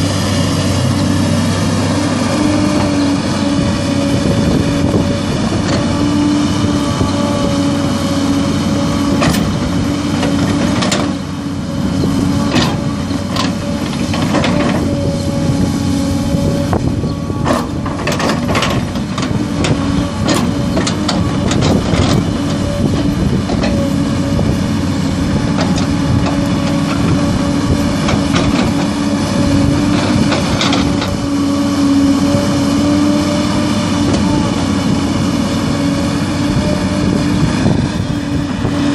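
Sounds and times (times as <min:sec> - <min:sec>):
excavator diesel engine running: 0:00.0 - 0:38.9
hydraulic whine: 0:00.0 - 0:38.9.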